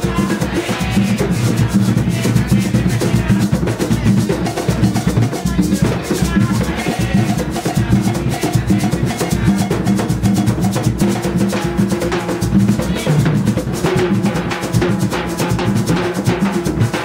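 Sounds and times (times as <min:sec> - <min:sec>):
hand drums playing: 0:00.0 - 0:17.0
maracas shaking: 0:00.0 - 0:17.0.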